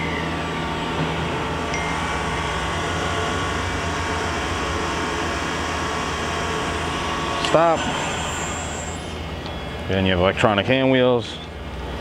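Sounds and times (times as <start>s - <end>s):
milling machine spindle humming: 0.0s - 10.2s.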